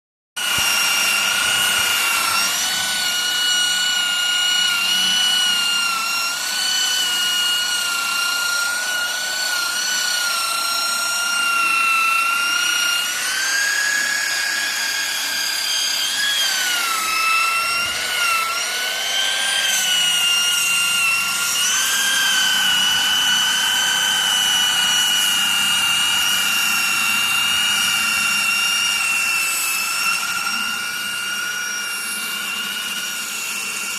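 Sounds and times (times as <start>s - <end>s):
power sander whining on wood: 0.4s - 33.9s.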